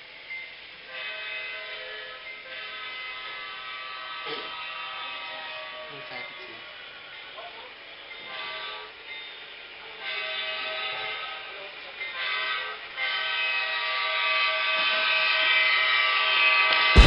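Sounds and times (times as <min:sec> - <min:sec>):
model locomotive horn blasts: 0:00.6 - 0:17.0.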